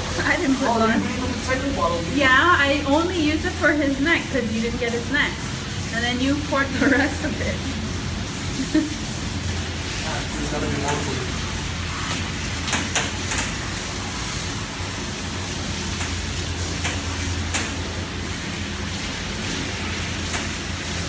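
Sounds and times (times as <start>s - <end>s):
hose sprayer spraying water: 0.0s - 21.0s
low machine hum: 0.0s - 21.0s.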